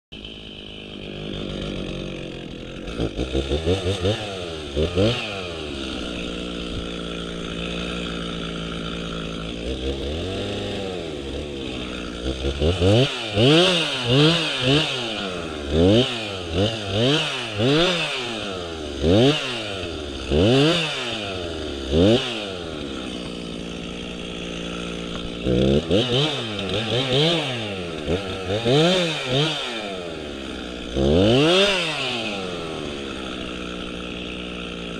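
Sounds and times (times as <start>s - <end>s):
chainsaw idling and revving: 0.1s - 34.9s.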